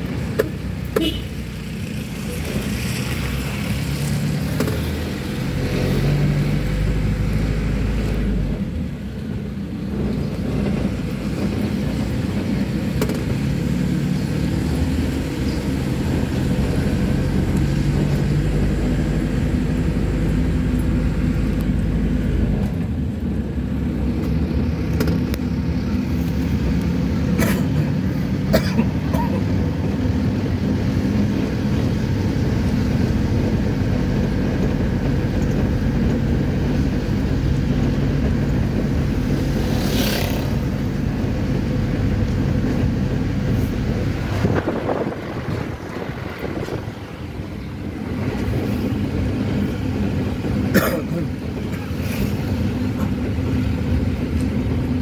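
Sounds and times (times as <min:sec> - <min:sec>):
road noise: 0:00.0 - 0:55.0
truck engine running: 0:04.4 - 0:55.0.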